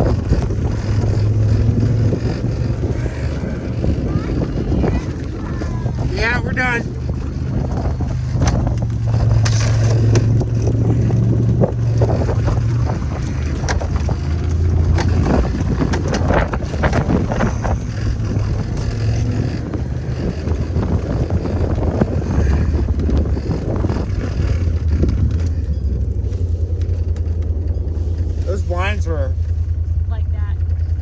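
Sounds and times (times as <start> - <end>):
knocks and rattles: 0.0 - 31.0
vehicle engine running: 0.0 - 31.0.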